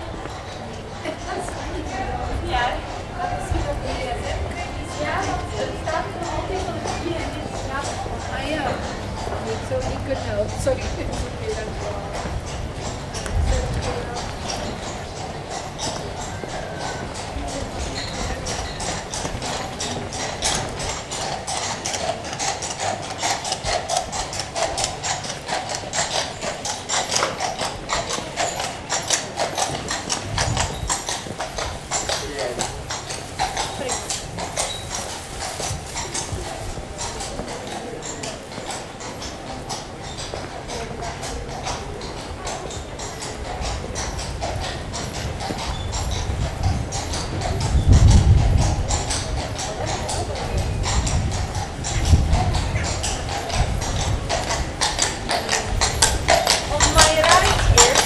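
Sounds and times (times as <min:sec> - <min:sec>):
hard steps on cobblestones: 0:00.0 - 0:58.0.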